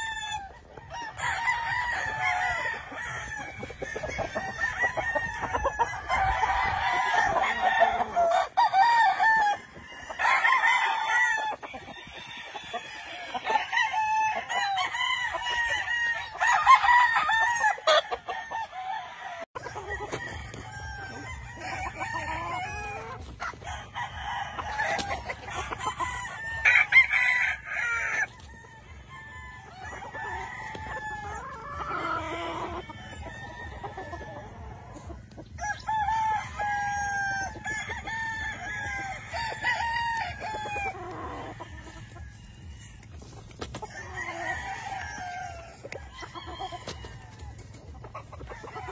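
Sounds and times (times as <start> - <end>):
roosters crowing: 0.0 - 48.9.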